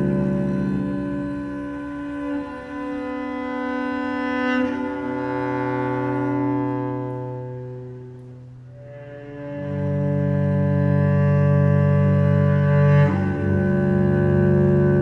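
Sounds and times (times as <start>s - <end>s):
cello bowed sustained notes: 0.0s - 15.0s.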